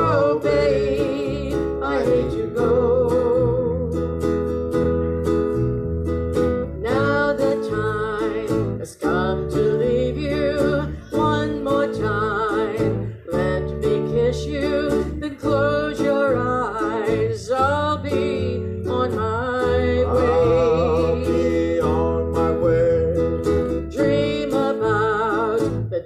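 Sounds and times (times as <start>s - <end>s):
vibrato melody line: 0.0s - 25.7s
guitar accompaniment: 0.0s - 26.0s.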